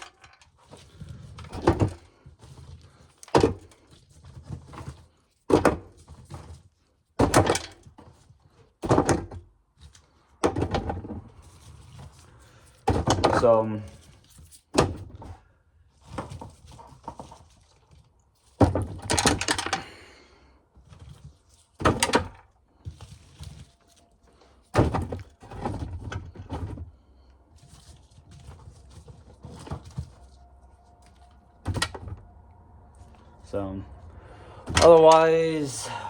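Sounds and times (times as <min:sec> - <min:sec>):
shuffling and scraping: 0:00.0 - 0:07.2, 0:09.7 - 0:36.0.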